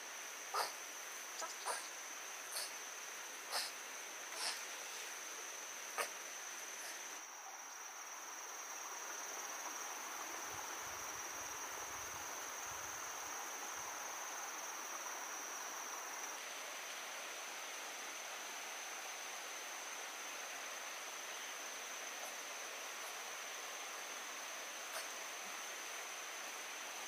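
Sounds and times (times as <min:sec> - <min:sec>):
insects trilling: 0:00.0 - 0:27.0
soft outdoor hiss: 0:00.0 - 0:27.0.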